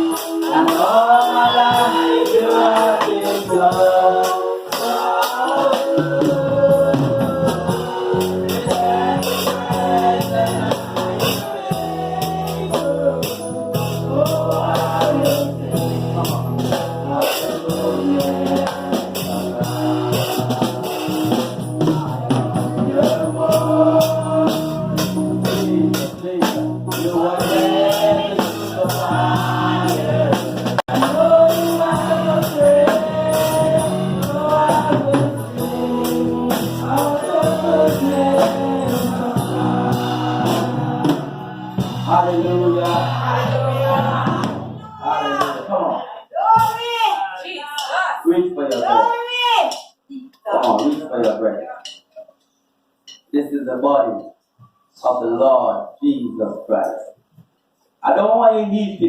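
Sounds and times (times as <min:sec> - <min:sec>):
gospel singing with band: 0:00.0 - 0:49.9.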